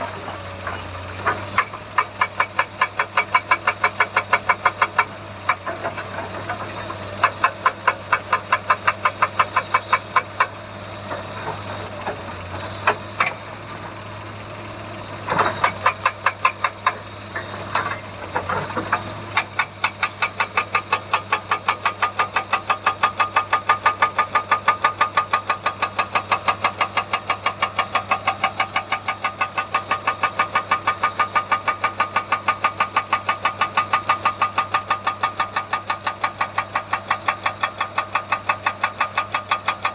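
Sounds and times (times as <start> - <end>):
hydraulic rock breaker hammering: 0.0 - 13.5, 15.2 - 39.9
excavator engine running: 0.0 - 39.9.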